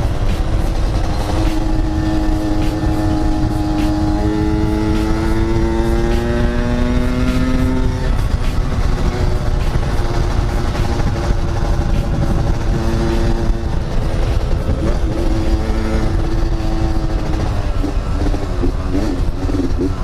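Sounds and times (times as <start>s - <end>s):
heavy low rumble: 0.0s - 20.0s
motorcycle engine running: 0.0s - 20.0s.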